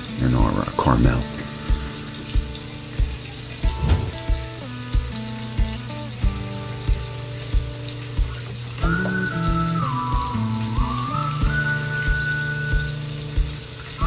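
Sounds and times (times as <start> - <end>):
bananas sizzling in butter: 0.0 - 14.0
background music with steady beat: 0.4 - 14.0.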